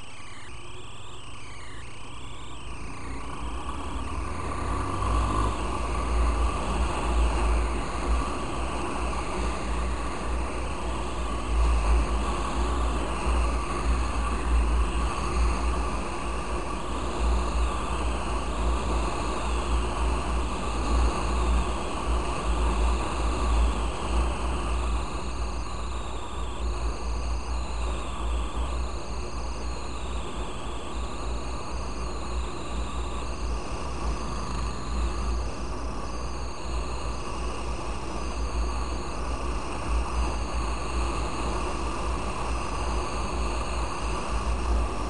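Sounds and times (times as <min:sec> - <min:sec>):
motorcycle engine drone: 0:00.0 - 0:45.0.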